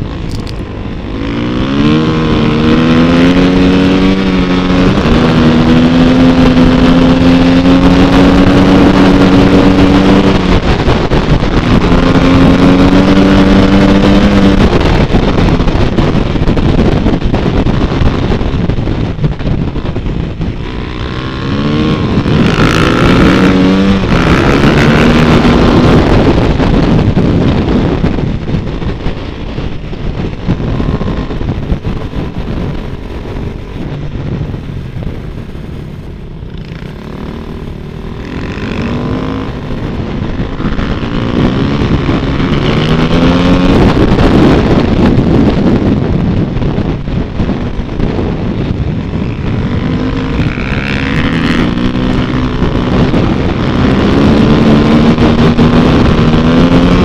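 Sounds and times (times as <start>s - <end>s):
dirt bike engine: 0.0s - 57.0s
wind on microphone: 0.0s - 57.0s.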